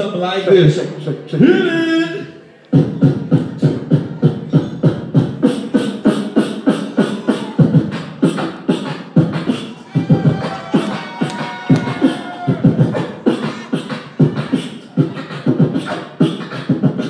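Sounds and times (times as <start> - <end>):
beatboxing beat: 0.0 - 17.0.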